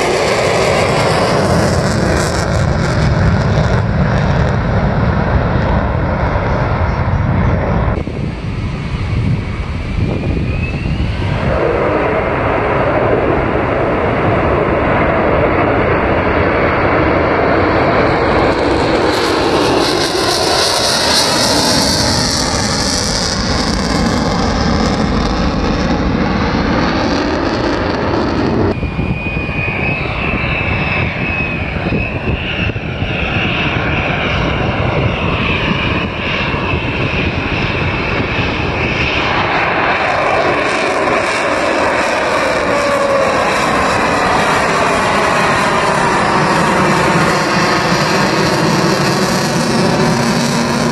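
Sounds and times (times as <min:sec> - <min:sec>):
fighter jet passing: 0:00.0 - 0:50.9.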